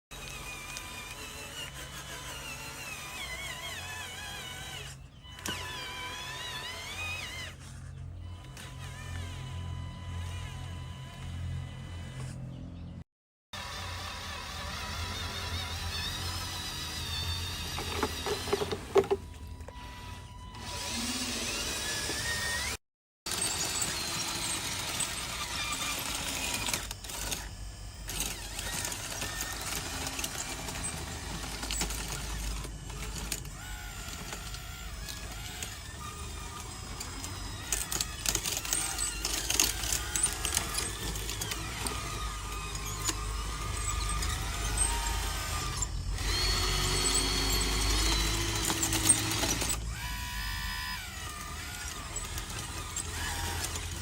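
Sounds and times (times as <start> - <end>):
small electric motors whining: 0.1 - 54.0.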